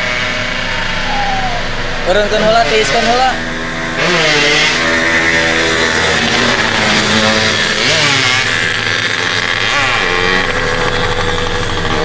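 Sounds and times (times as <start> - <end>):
vehicle engine revving past: 0.0 - 11.1.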